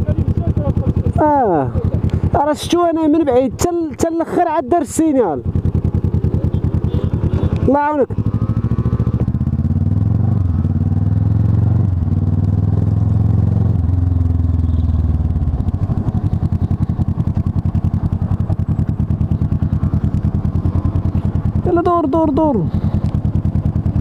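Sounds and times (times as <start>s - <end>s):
motorcycle engine: 0.0s - 24.0s.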